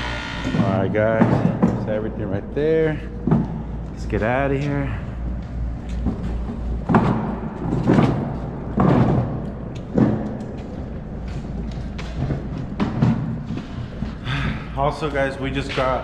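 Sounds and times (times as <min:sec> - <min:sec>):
hand truck rattling: 0:00.0 - 0:16.0
heavy thumps: 0:00.0 - 0:16.0
wheels rumbling on concrete: 0:00.0 - 0:16.0.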